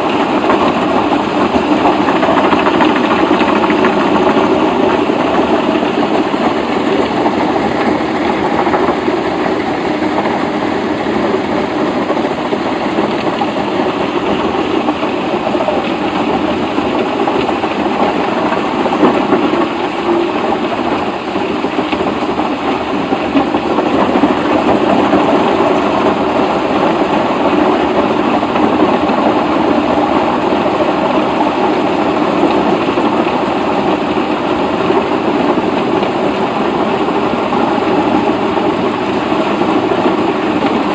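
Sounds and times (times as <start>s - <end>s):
machine engine clattering: 0.0s - 40.9s.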